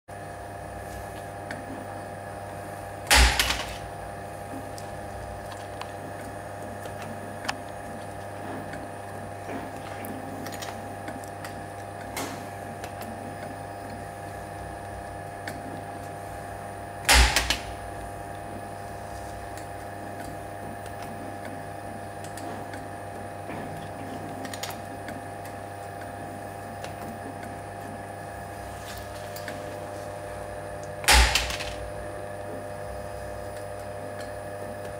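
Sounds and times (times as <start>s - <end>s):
machine humming: 0.1s - 34.9s.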